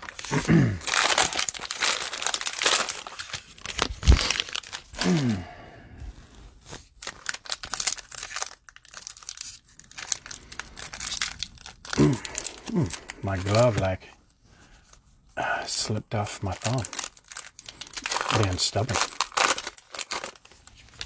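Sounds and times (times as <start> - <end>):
plastic wrapper crinkling: 0.0 - 5.4, 6.6 - 14.1, 16.3 - 21.0.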